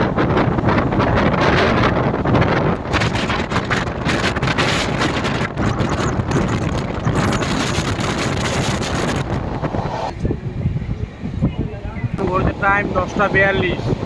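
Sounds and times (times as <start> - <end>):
train running at speed: 0.0 - 14.0
wind buffeting microphone: 0.0 - 14.0.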